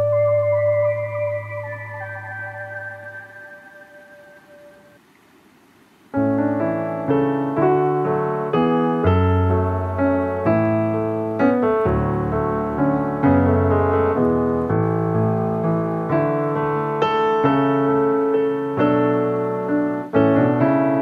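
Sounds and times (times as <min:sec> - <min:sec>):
calm piano music: 0:00.0 - 0:05.1, 0:06.1 - 0:21.0.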